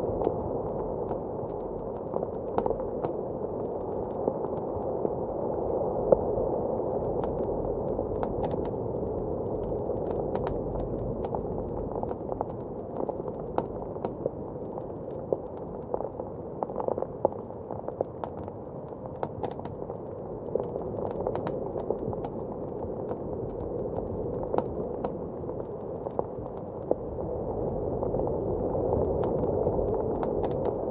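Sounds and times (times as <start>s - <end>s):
muffled howl of blizzard wind: 0.0s - 30.9s
wood fire crackling and popping: 0.0s - 30.9s.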